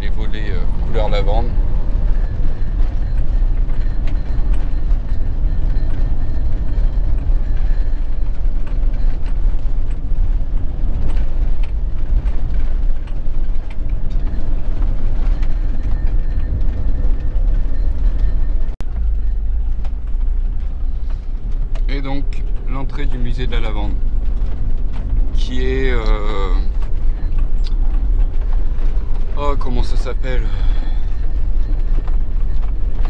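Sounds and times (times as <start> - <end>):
van engine and road rumble: 0.0 - 33.0.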